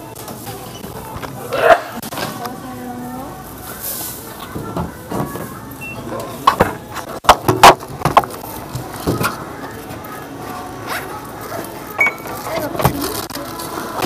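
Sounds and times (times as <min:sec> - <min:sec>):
groceries knocking and clunking: 0:00.0 - 0:14.0.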